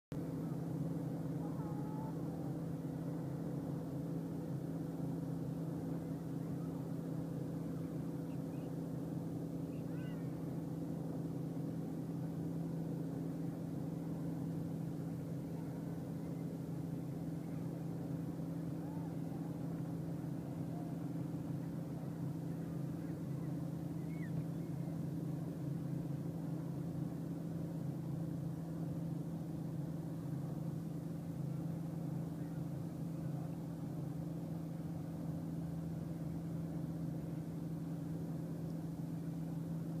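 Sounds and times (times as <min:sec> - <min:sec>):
motor droning: 0:00.2 - 0:40.0.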